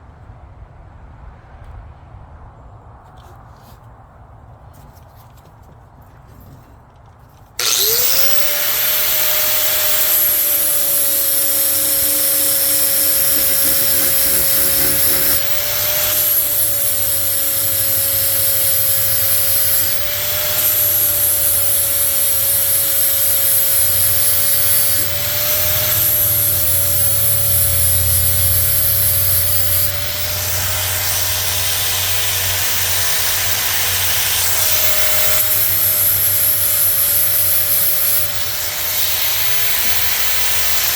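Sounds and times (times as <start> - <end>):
angle grinder grinding steel: 7.6 - 40.9.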